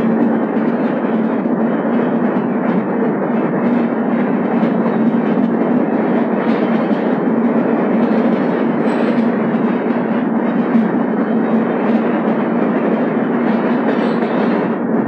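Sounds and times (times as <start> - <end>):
train wheels roaring on rails: 0.0 - 15.0.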